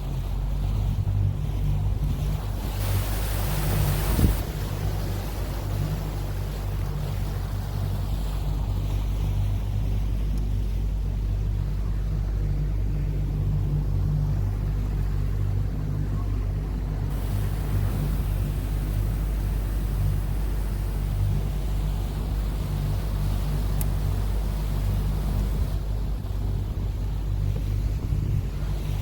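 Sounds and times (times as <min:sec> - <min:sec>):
motorboat engine drone: 0:00.0 - 0:29.0
rushing wind: 0:00.0 - 0:29.0
water rushing: 0:00.0 - 0:29.0.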